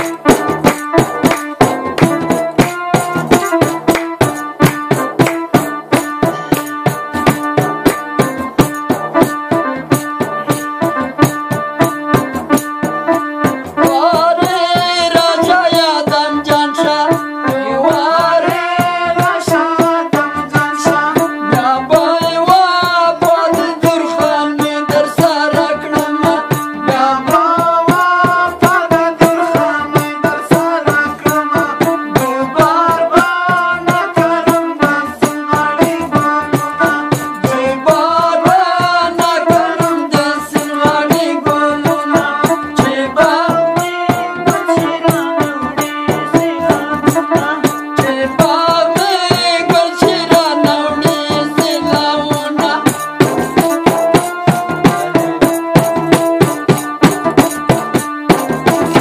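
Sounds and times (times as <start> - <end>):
person singing: 0.0 - 3.9, 5.4 - 8.6, 13.7 - 57.4
frame drum beating: 0.0 - 59.0.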